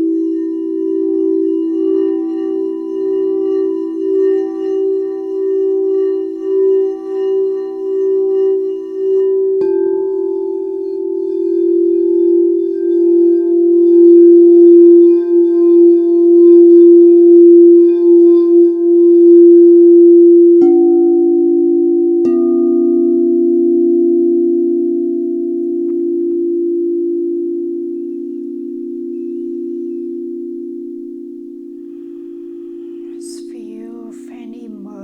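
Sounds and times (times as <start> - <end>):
singing bowls ringing: 0.0 - 35.0.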